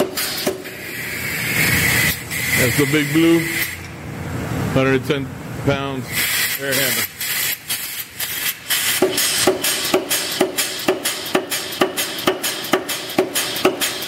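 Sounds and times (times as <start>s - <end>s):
air hammer blows on metal: 0.0s - 3.9s, 6.1s - 14.0s
compressed air hiss: 0.0s - 3.9s, 6.1s - 14.0s.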